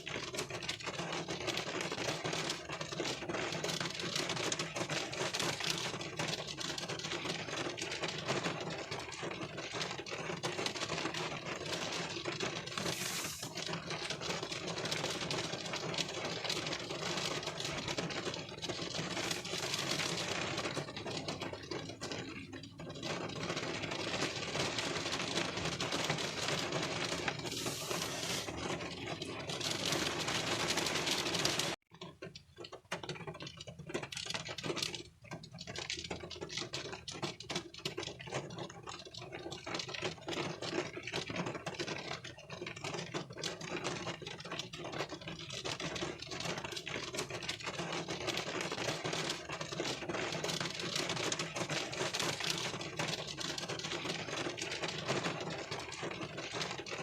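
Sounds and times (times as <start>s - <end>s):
rain pattering on windshield: 0.0s - 57.0s.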